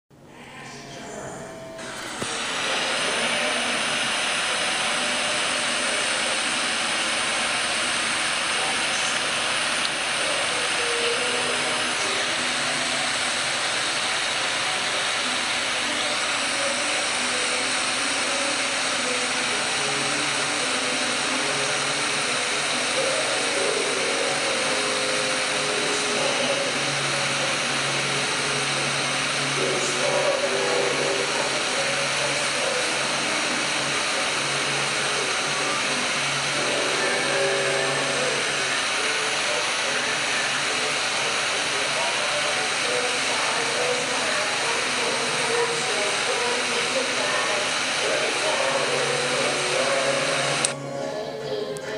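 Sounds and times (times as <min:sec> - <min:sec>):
loud rushing hiss: 0:01.8 - 0:50.7.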